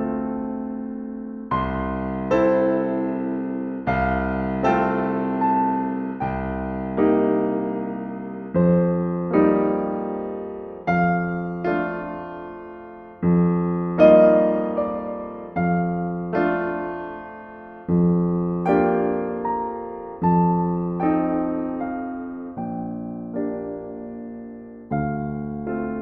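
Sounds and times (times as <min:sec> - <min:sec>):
gentle solo piano chords: 0:00.0 - 0:26.0.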